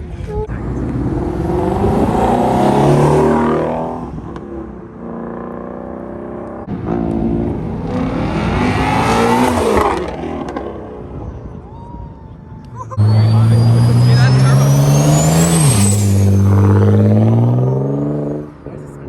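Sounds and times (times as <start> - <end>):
sports car engine revving: 0.5 - 11.2, 13.0 - 18.7.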